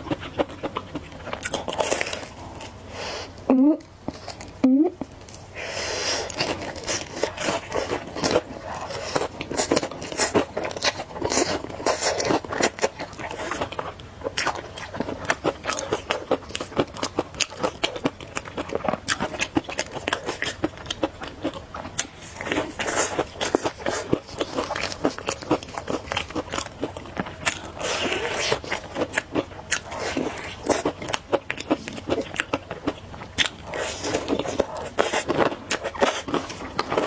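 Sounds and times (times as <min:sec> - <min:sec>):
crunching and chewing food: 0:00.0 - 0:37.0.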